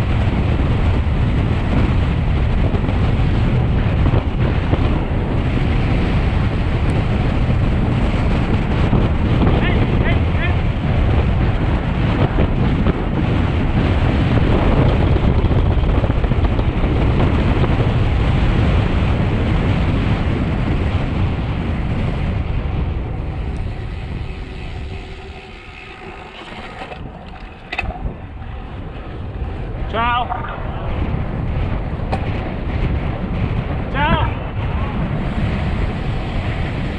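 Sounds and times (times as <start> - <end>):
tyres humming on road: 0.0 - 36.9
wind rushing over microphone: 0.0 - 36.9.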